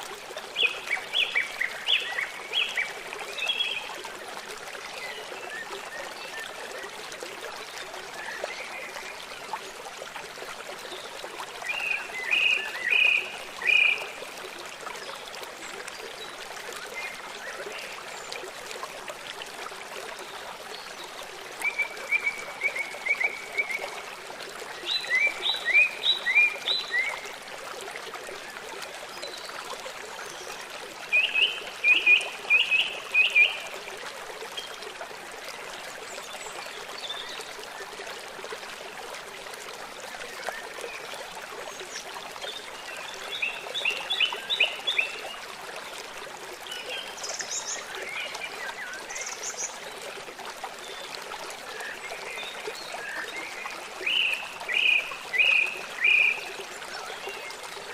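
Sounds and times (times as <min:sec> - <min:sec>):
forest stream flowing: 0:00.0 - 0:57.9.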